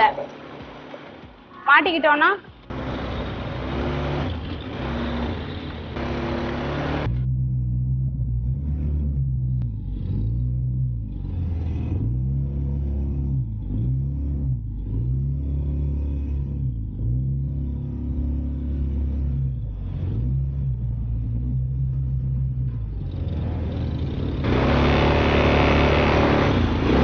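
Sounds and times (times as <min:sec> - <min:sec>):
atv engine revving: 0:02.7 - 0:27.0.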